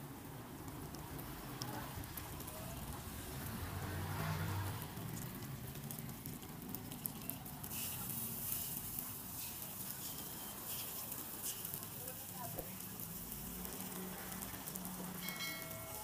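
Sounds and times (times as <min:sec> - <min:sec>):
batter being poured: 0:00.0 - 0:16.0
cakes sizzling in a mould: 0:00.0 - 0:16.0.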